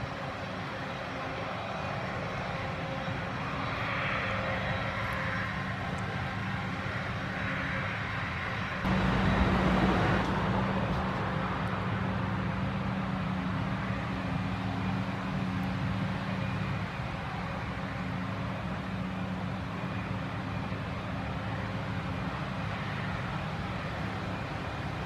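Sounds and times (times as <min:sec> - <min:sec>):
forage harvester engine droning: 0:00.0 - 0:25.0
tractor engine: 0:04.6 - 0:25.0.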